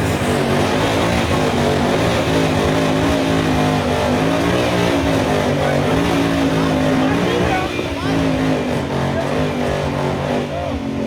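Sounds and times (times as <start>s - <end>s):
car engine running loudly: 0.0s - 11.0s.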